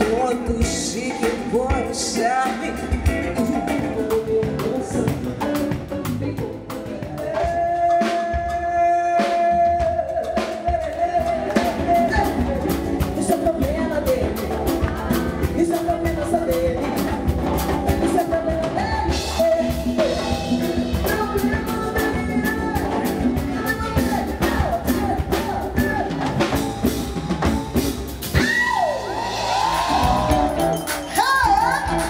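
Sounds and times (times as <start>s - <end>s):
electric bass: 0.0s - 7.8s, 11.2s - 32.0s
drum kit steady beat: 0.0s - 32.0s
woman singing: 0.0s - 32.0s.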